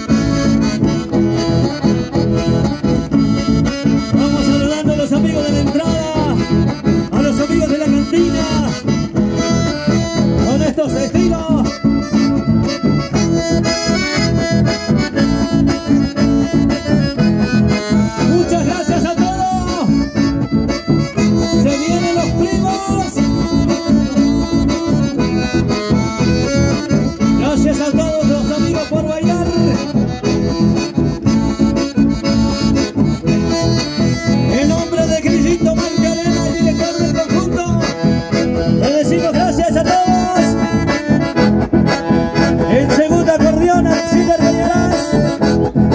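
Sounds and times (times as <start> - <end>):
button accordions playing melody: 0.0 - 45.9
strummed acoustic guitars: 0.0 - 45.9.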